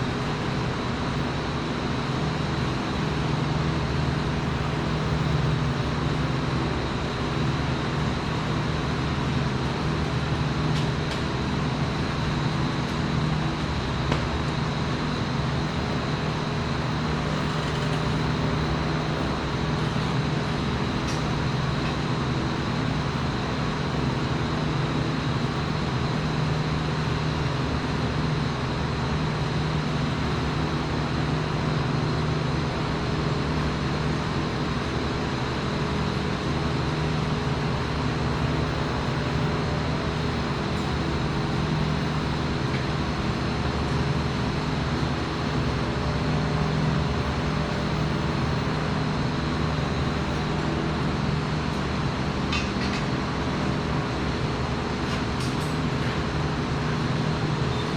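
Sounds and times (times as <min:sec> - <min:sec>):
low machine drone: 0:00.0 - 0:57.9.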